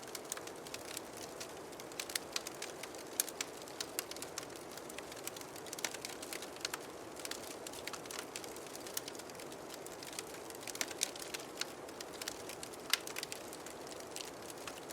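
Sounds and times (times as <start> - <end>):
wood fire crackling: 0.0 - 14.9.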